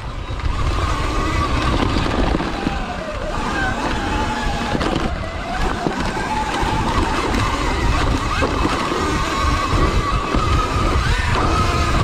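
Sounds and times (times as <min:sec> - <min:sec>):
electric motor whine: 0:00.0 - 0:12.0
wind and tyres on dirt: 0:00.0 - 0:12.0.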